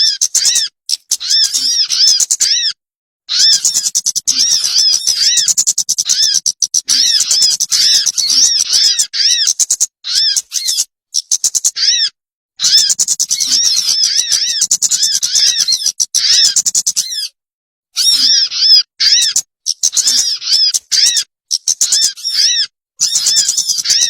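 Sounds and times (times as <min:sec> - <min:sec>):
recorded bird call chatter: 0:00.0 - 0:17.4, 0:18.0 - 0:24.0.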